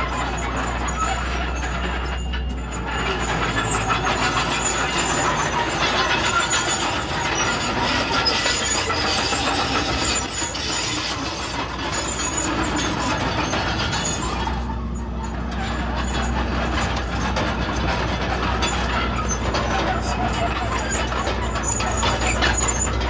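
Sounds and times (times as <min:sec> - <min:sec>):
bulldozer diesel engine: 0:00.0 - 0:23.0.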